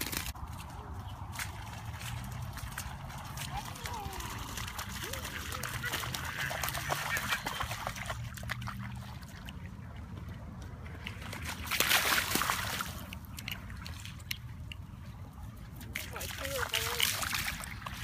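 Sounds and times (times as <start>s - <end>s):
paws splashing in water: 0.0s - 18.0s.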